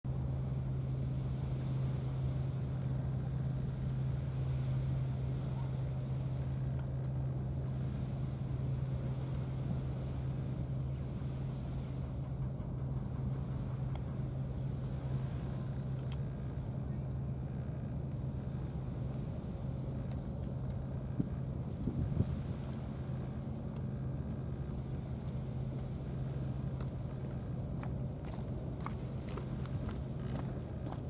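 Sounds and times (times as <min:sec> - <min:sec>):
low mechanical motor hum: 0:00.1 - 0:31.0.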